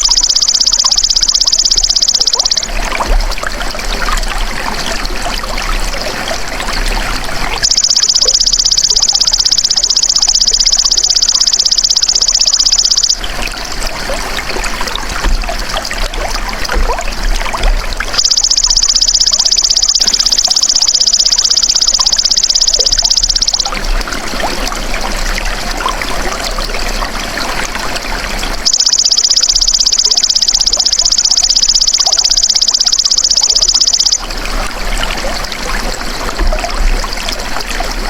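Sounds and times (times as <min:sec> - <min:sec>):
water trickling: 0:00.0 - 0:38.0.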